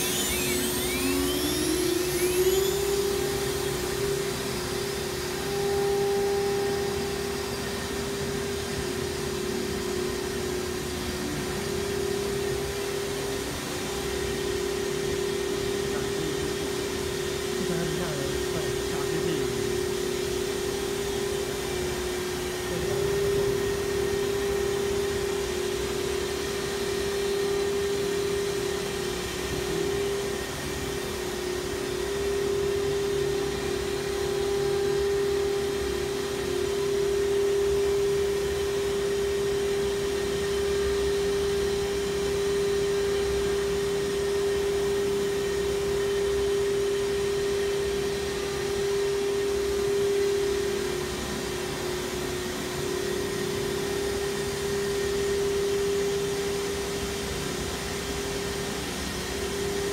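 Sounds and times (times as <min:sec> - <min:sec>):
machine hum: 0:00.0 - 0:59.9
router spindle high-pitched whine: 0:00.0 - 0:59.9.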